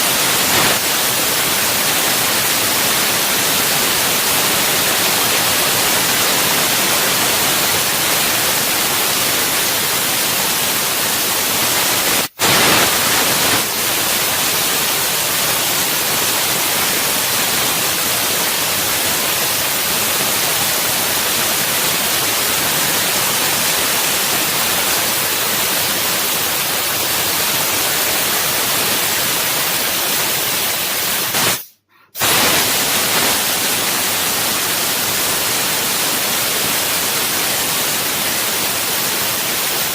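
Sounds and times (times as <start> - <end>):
laser cutter gas jet hissing: 0.0 - 39.9.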